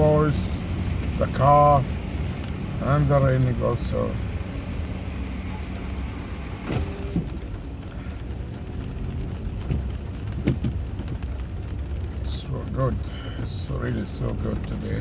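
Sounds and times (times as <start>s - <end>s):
low rumble of traffic: 0.0s - 15.0s
rain hissing: 0.0s - 15.0s.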